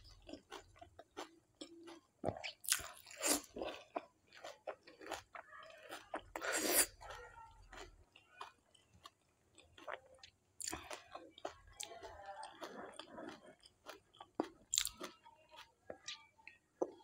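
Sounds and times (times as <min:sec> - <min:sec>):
wet crunchy chewing: 0:00.0 - 0:17.0.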